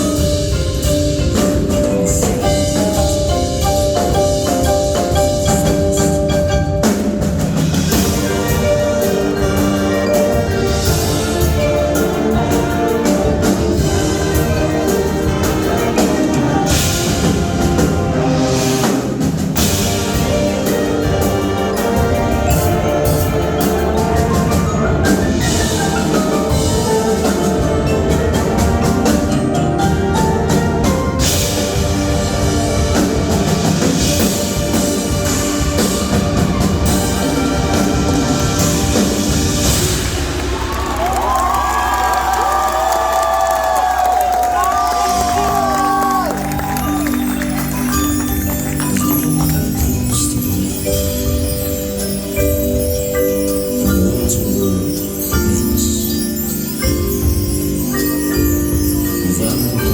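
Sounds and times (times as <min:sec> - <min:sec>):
drums: 0:00.0 - 0:59.9
keyboard percussion: 0:00.0 - 0:59.9.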